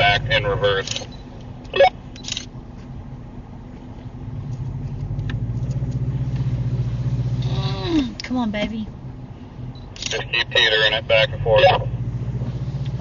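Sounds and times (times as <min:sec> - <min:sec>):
off-road vehicle engine revving: 0:00.0 - 0:02.4, 0:03.4 - 0:13.0.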